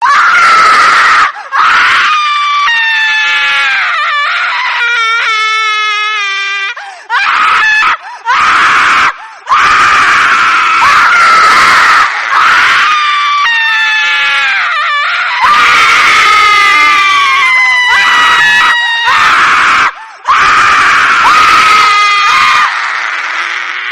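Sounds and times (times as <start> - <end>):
woman shrieking laugh: 0.0 - 8.4, 10.6 - 23.9.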